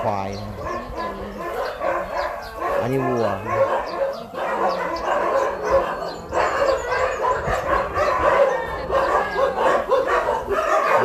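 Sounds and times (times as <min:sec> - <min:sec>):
many dogs barking and yipping: 0:00.0 - 0:11.0.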